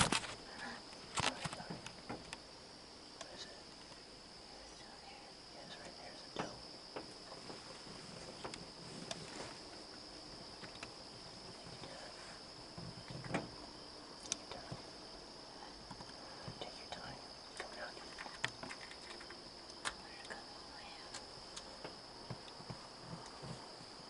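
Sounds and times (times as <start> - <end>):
faint clicks and rustles: 0.0 - 2.4, 3.2 - 15.0, 15.6 - 24.0
crickets chorus: 0.0 - 24.0.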